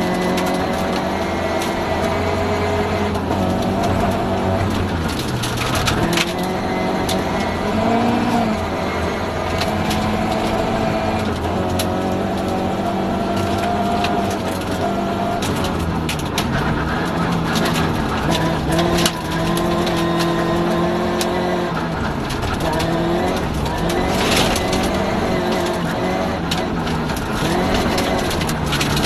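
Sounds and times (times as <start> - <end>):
gravel clattering against underbody: 0.0 - 29.0
rally car engine running hard: 0.0 - 29.0.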